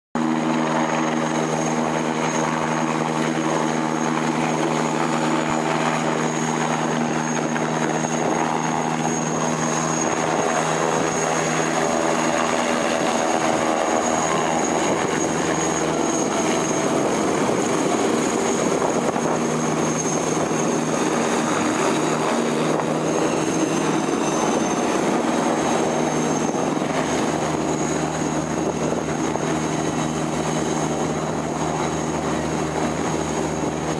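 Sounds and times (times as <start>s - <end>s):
helicopter rotor: 0.2s - 33.9s
high-pitched turbine whine: 0.2s - 33.9s.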